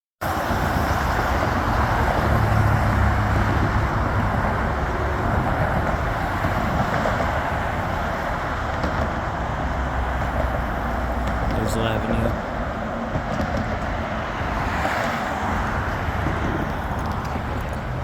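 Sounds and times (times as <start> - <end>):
road traffic noise: 0.2 - 18.0
vehicle engine hum: 0.2 - 18.0.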